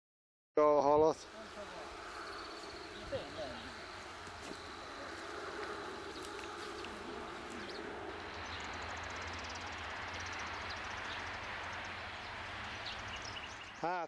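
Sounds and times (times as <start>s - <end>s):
bird chirps: 1.1s - 14.0s
low background rumble: 1.2s - 13.8s.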